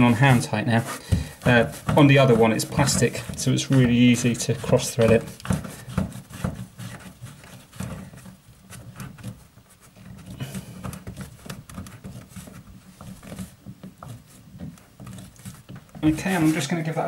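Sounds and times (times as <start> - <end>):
hands knocking and rubbing on metal: 0.0 - 17.0.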